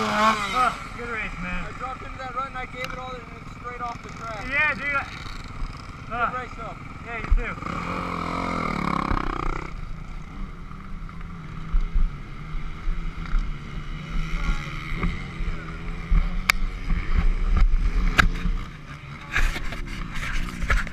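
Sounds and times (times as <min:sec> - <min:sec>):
motorcycle engine running low: 0:00.0 - 0:20.9.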